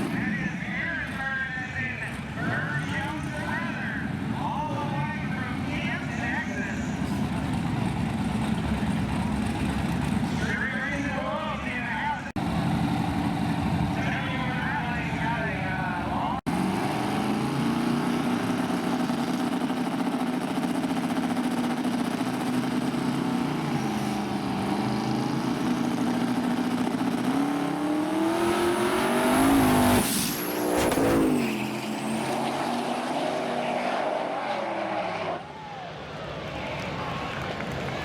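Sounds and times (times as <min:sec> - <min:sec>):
drag racing engines revving: 0:00.0 - 0:38.0.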